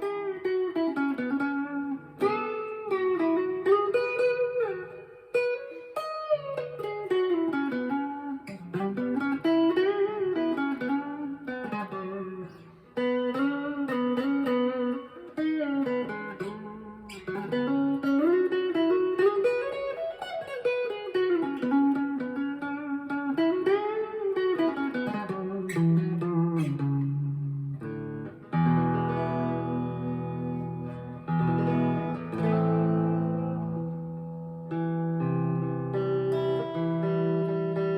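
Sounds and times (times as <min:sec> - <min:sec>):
clean electric guitar: 0:00.0 - 0:37.9.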